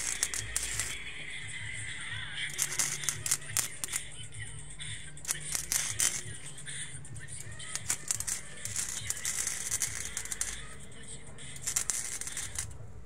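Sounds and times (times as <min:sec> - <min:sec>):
music: 0:00.0 - 0:13.0
welding arc crackling: 0:00.0 - 0:13.0.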